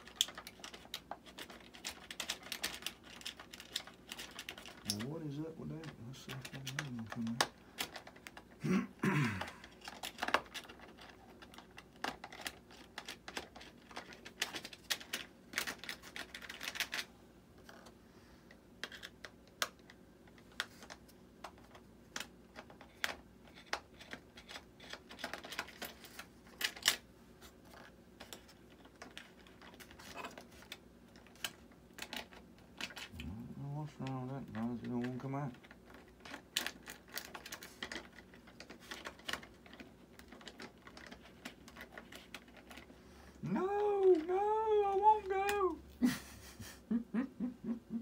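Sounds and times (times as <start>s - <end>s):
small parts clicking and tapping: 0.0s - 8.6s, 9.4s - 17.9s, 18.5s - 27.0s, 27.6s - 33.2s, 33.9s - 42.9s.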